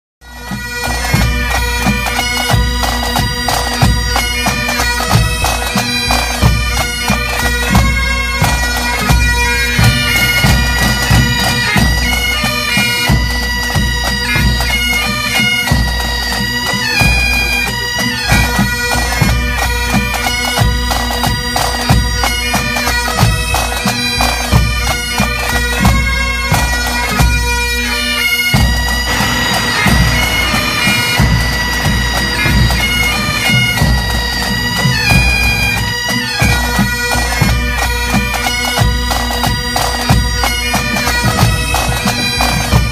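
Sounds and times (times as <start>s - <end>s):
bagpipes playing melody: 0.2s - 42.9s
drums beating time: 0.5s - 22.4s, 28.5s - 42.9s.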